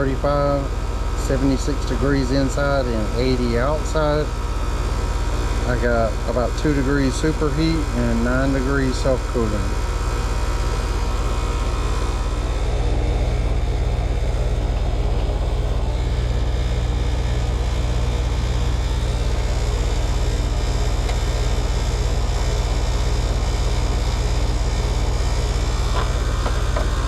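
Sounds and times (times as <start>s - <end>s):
heat pump humming: 0.0s - 27.0s.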